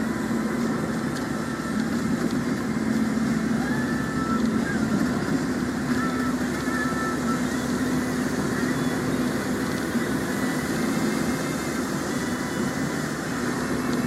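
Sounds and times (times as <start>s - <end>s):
engine and tyres on wet road: 0.0s - 14.0s
rain hissing: 0.0s - 14.0s.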